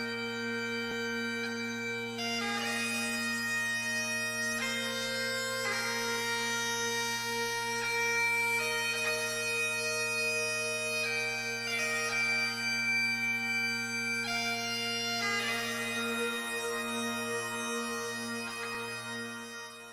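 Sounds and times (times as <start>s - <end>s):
bagpipe melody over drones: 0.0s - 19.9s.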